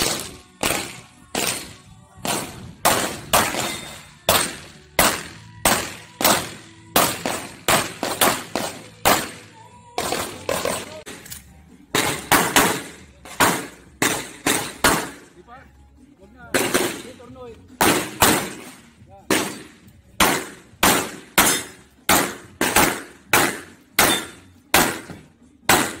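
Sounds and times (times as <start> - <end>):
pistol gunshots: 0.0 - 11.3, 11.9 - 15.3, 16.5 - 17.2, 17.8 - 26.0.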